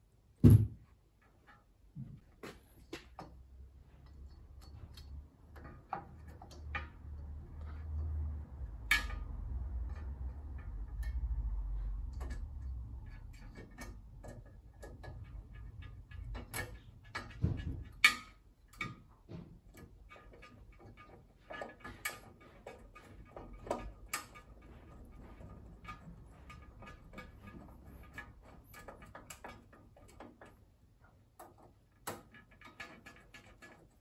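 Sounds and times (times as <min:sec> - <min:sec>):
small clicks and light knocks: 0:01.2 - 0:34.0.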